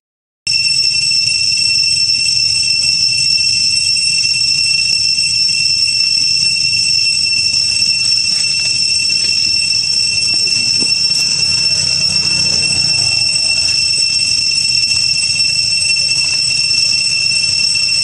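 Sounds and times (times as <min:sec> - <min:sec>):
cicadas droning: 0:02.2 - 0:18.0.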